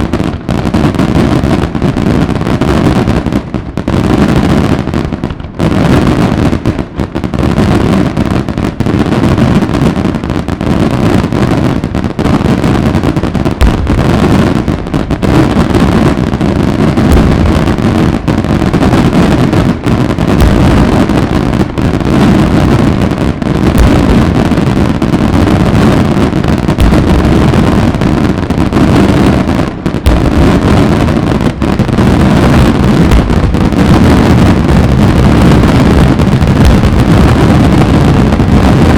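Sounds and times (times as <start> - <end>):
fireworks barrage rumble: 0.0 - 38.9
sharp firework bangs: 0.0 - 38.9.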